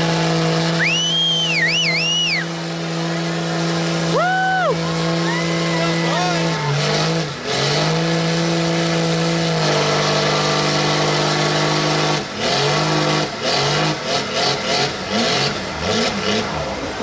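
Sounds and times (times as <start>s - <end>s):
tires spinning in mud: 0.0s - 17.0s
truck engine revving: 0.0s - 17.0s.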